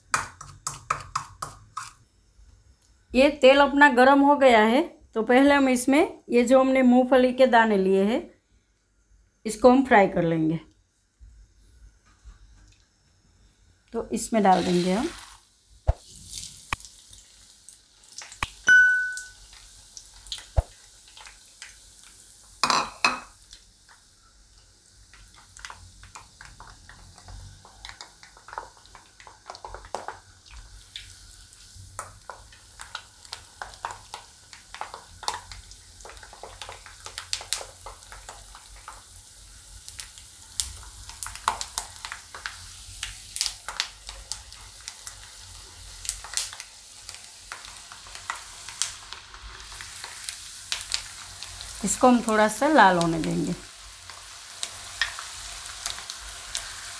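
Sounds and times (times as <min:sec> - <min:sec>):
peanuts sizzling in hot oil: 0:00.0 - 0:04.6, 0:11.2 - 0:56.9.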